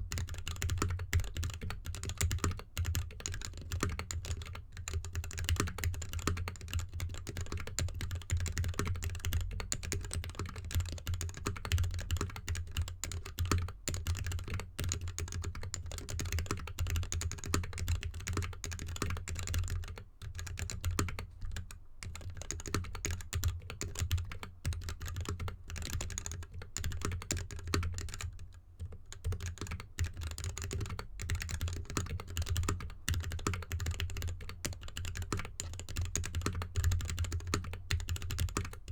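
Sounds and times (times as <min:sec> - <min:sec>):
fast mechanical keyboard typing: 0:00.1 - 0:38.9.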